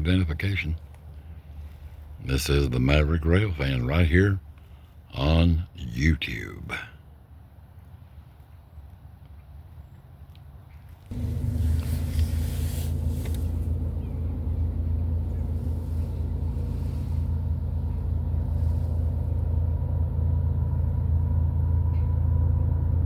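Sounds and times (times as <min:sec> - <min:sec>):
diesel locomotive engines rumbling: 0:00.0 - 0:23.0.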